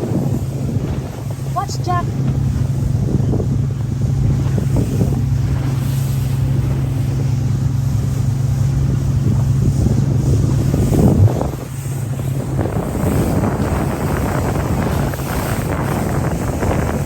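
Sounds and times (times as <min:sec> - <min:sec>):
motorboat engine droning: 0:00.0 - 0:17.0
wind buffeting microphone: 0:00.0 - 0:17.0.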